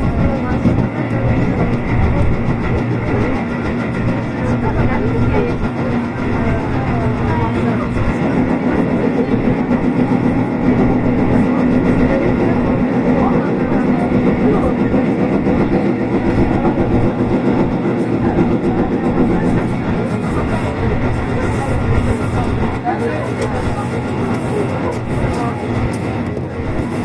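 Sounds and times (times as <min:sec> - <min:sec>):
train motor hum: 0:00.0 - 0:27.0
wheel and rail noise: 0:00.0 - 0:27.0.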